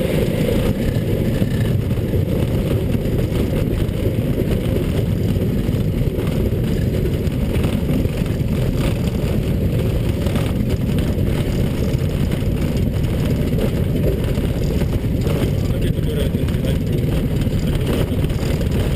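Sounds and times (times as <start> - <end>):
propeller plane engine drone: 0.0 - 18.9.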